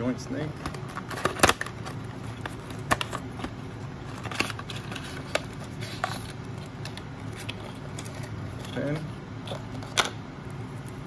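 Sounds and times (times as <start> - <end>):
cardboard packaging rustling: 0.6 - 10.0.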